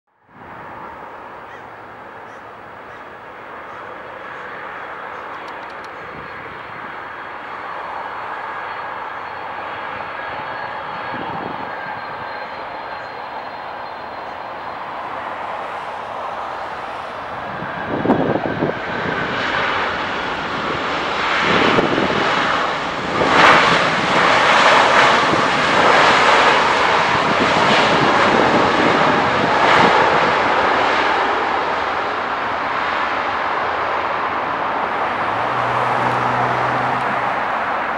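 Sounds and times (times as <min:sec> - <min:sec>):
jet engines roaring: 0:00.3 - 0:37.9.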